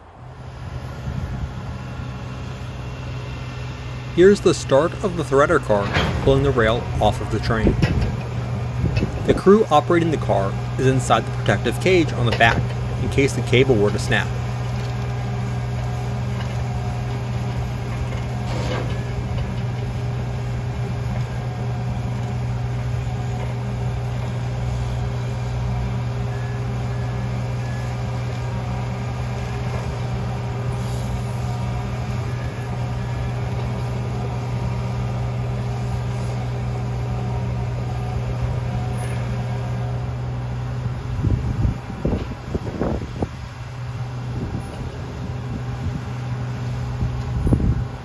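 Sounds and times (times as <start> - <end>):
heavy engine running steadily: 0.0 - 48.0.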